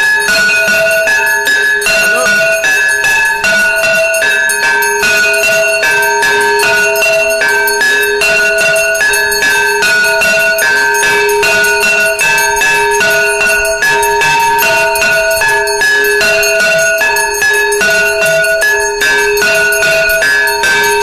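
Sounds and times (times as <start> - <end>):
temple bells clanging: 0.0 - 21.0.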